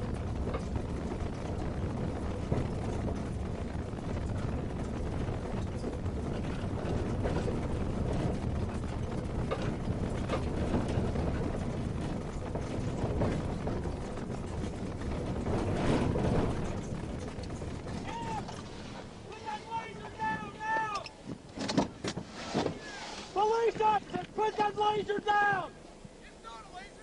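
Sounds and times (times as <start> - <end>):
rattles and clicks: 0.0 - 25.6
car rumbling on rough road: 0.0 - 26.2.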